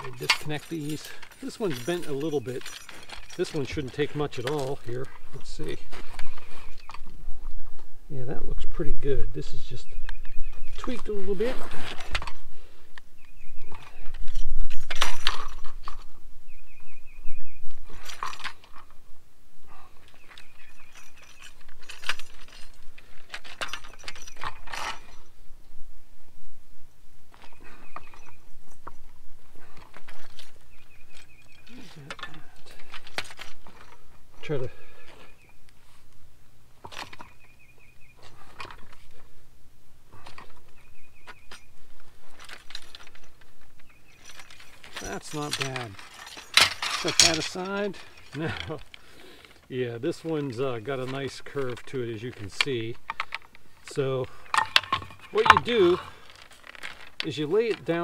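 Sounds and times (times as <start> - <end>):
metal rods clinking and rattling: 0.0 - 7.5, 9.4 - 12.5, 13.3 - 16.2, 17.7 - 19.0, 19.9 - 25.4, 27.3 - 35.4, 36.8 - 39.4, 40.1 - 58.0.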